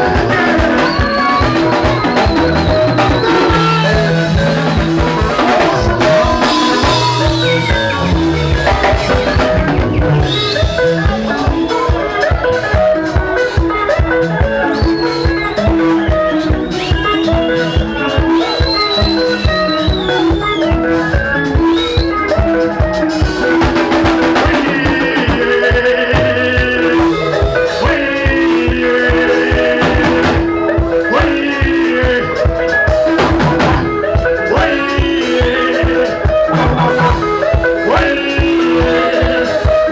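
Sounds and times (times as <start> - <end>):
bass: 0.0 - 39.9
drum kit beat: 0.0 - 39.9
electric guitar lines: 0.0 - 39.9.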